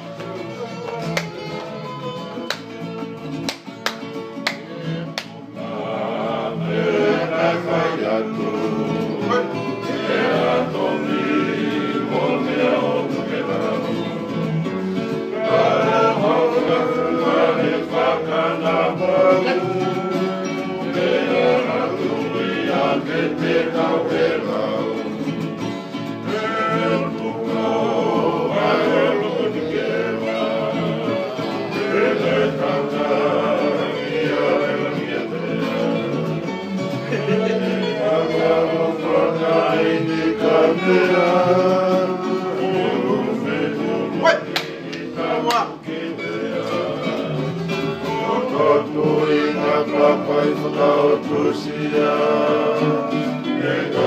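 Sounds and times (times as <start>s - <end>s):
strummed acoustic guitars: 0.0s - 54.0s
men singing together: 5.3s - 54.0s.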